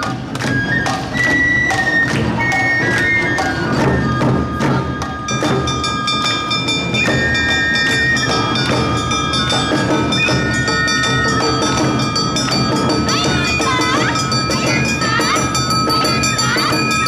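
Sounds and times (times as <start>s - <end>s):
bamboo flutes: 0.0s - 17.0s
taiko drums beating: 0.0s - 17.0s.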